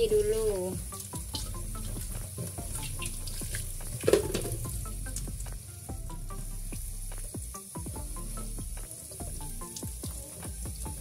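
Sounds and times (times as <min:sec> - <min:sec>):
tap water running into metal sink: 0:00.0 - 0:11.0.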